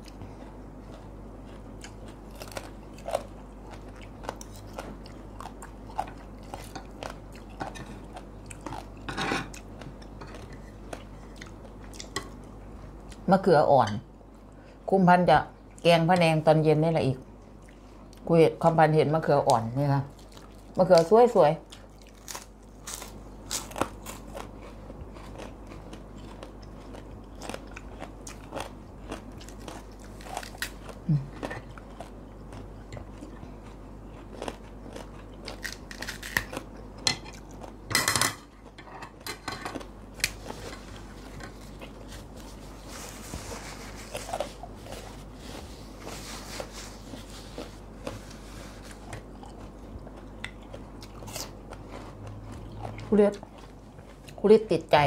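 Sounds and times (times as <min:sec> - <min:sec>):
crunchy chewing of vegetables: 0:00.0 - 0:13.3, 0:19.2 - 0:37.9, 0:38.5 - 0:55.0.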